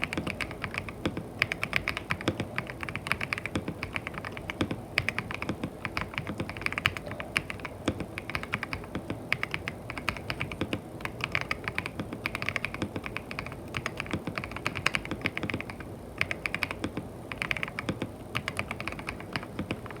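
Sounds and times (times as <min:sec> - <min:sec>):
mechanical keyboard typing: 0:00.0 - 0:20.0.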